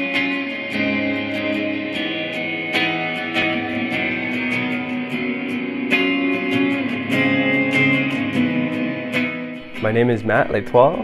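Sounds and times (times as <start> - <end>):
electric guitar music: 0.0 - 11.0.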